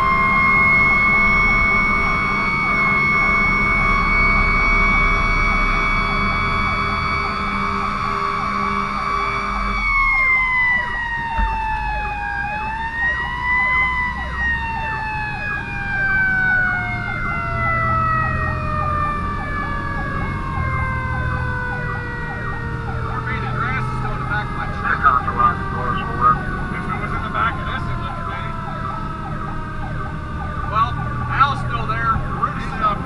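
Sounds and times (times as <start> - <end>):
diesel engine rumbling: 0.0 - 33.0
electronic siren yelping: 0.0 - 33.0
mechanical siren winding down: 0.0 - 33.0.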